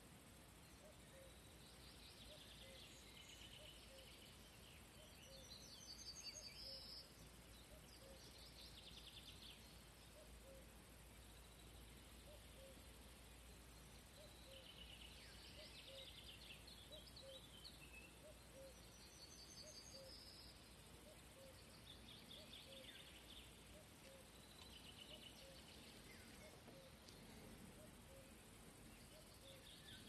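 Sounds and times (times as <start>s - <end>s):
songbird chirping: 0.0s - 30.0s.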